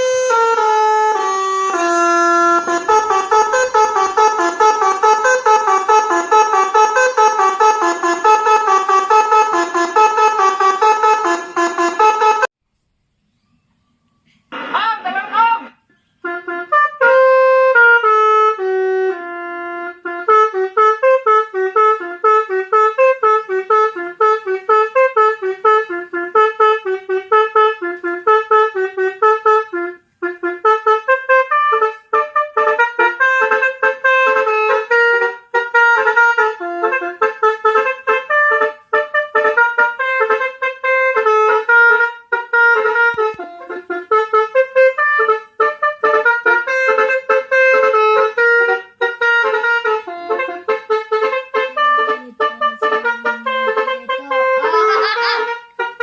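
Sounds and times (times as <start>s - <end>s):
multi-tone bus horn melody: 0.0s - 12.5s, 14.5s - 56.0s.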